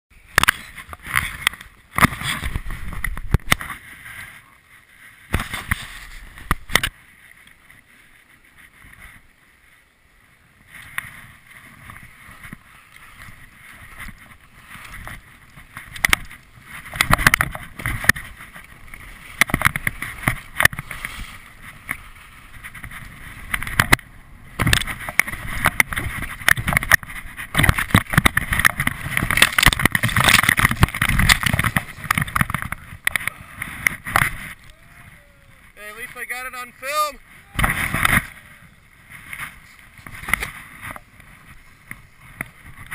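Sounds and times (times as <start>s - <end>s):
wind on microphone: 0.2s - 4.6s, 10.6s - 35.9s, 37.2s - 42.9s
skis scraping over snow: 0.2s - 42.9s.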